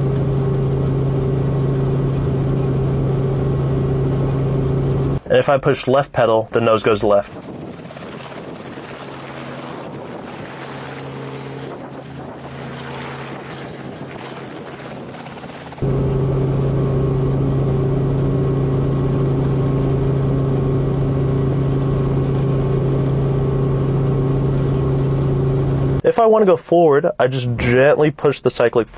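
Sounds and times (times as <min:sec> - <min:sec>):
helicopter cabin engine hum: 0:00.0 - 0:05.2, 0:07.1 - 0:26.0
helicopter rotor and engine: 0:00.0 - 0:05.2, 0:06.6 - 0:26.0.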